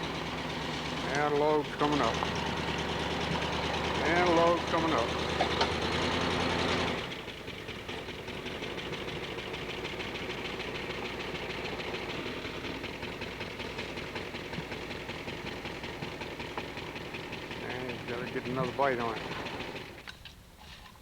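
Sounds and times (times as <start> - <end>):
car engine idling: 0.0 - 20.3
car engine under load: 0.0 - 21.0.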